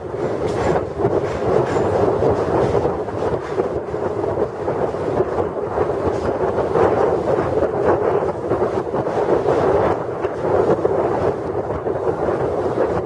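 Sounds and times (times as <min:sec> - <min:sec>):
train wheels rumbling on bridge: 0:00.0 - 0:13.0
wind buffeting microphone: 0:00.0 - 0:13.0.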